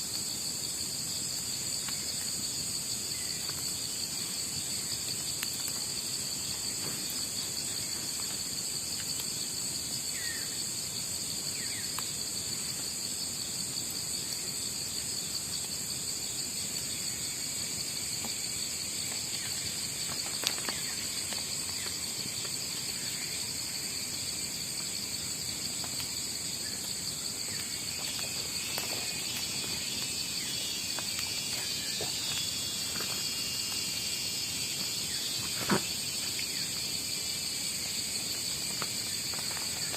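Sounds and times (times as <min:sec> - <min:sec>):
crickets and night insects chirping: 0:00.0 - 0:39.9.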